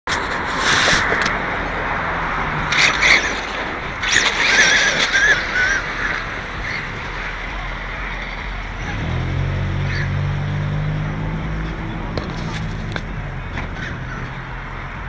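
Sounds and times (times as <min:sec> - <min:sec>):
rc truck tyre and drivetrain noise: 0:00.1 - 0:15.0.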